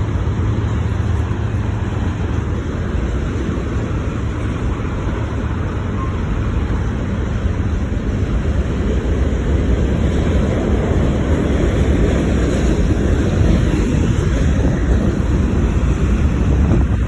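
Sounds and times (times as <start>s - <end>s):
freight train rumbling past: 0.0s - 17.0s
wind buffeting microphone: 0.0s - 17.0s.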